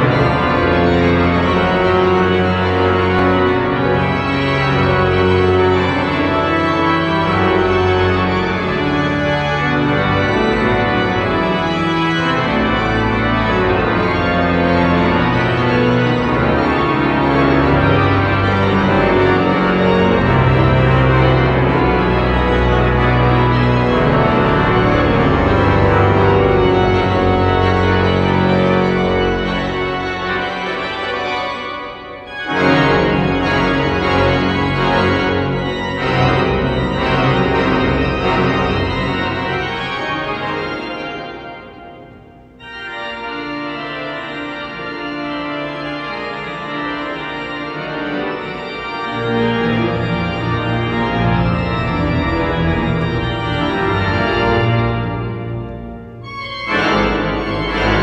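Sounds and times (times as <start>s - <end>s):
pipe organ chords: 0.0s - 58.0s.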